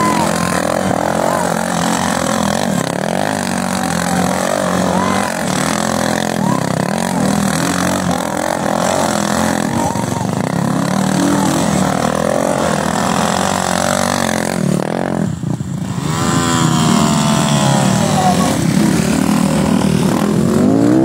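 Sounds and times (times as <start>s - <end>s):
vehicle engines revving: 0.0s - 21.0s.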